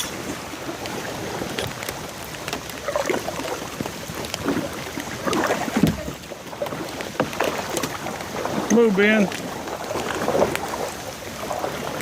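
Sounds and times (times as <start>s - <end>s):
paddle splashing water: 0.0s - 12.0s
water dripping off paddle: 0.0s - 12.0s.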